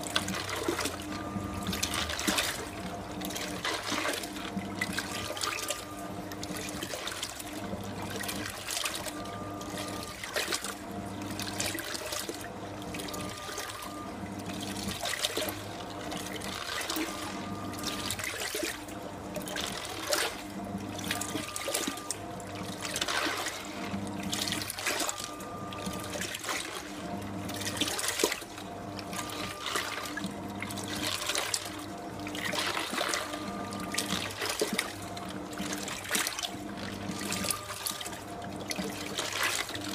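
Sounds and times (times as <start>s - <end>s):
washing machine motor humming: 0.0s - 39.9s
water splashing and churning: 0.0s - 39.9s.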